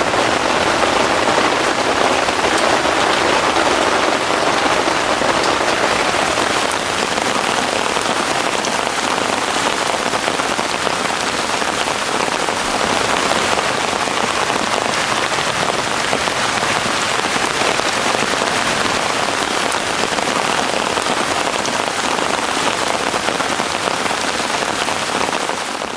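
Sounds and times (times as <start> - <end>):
heavy rain falling: 0.0 - 25.9.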